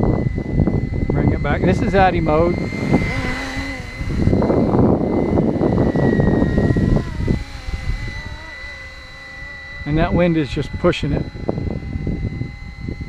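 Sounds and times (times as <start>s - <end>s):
model helicopter motor whine: 0.0s - 13.0s
wavering rotor tone: 0.0s - 13.0s
wind buffeting microphone: 0.0s - 13.0s.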